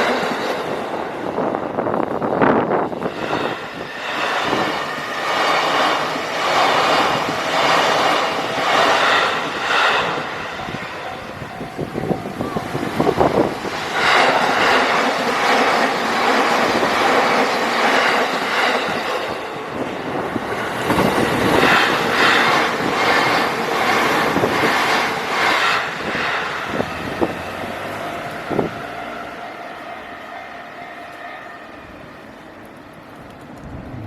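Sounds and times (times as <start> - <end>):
train wheels rushing on rails: 0.0 - 34.0.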